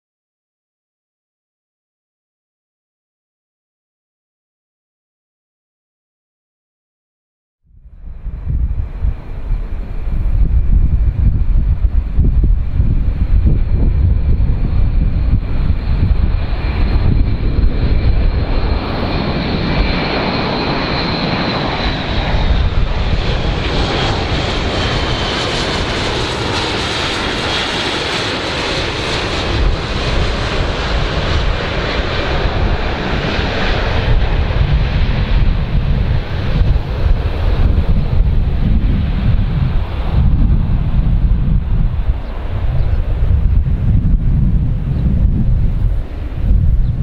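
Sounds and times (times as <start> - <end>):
high engine whine: 7.7 - 47.0
turboprop aircraft passing overhead: 7.7 - 47.0.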